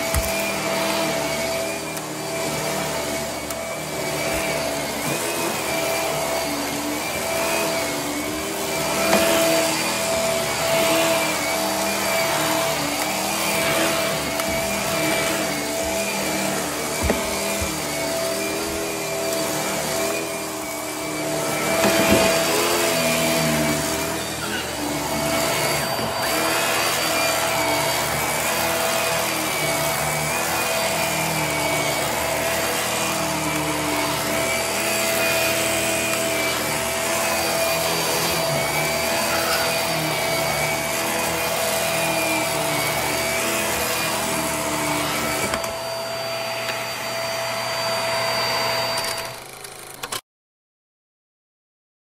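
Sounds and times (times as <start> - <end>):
vacuum cleaner motor whine: 0.0 - 50.2.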